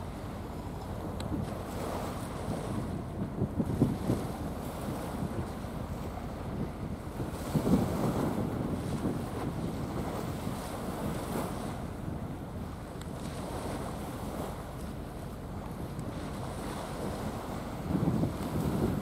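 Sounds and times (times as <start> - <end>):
waves washing: 0.0 - 19.0
wind on microphone: 0.0 - 19.0.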